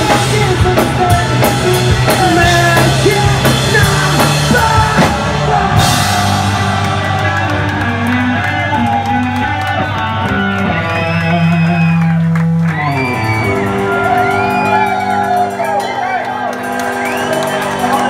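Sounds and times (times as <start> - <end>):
bass guitar: 0.0 - 18.0
drums: 0.0 - 18.0
electric guitars: 0.0 - 18.0.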